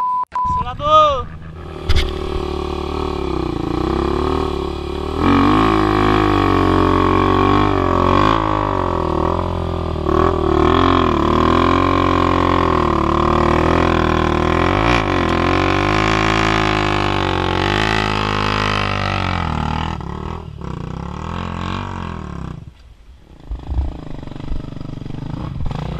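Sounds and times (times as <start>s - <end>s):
dirt bike engines revving: 0.5s - 25.9s.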